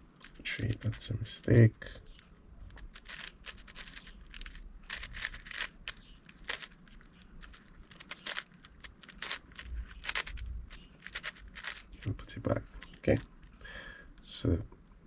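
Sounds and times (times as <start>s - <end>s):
puzzle cube clicking and scraping: 0.0s - 1.3s, 2.0s - 13.6s.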